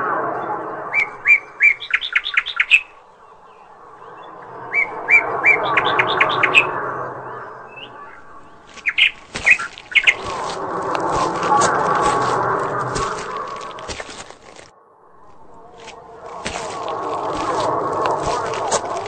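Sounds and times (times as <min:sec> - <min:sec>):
songbird singing: 0:00.4 - 0:19.0.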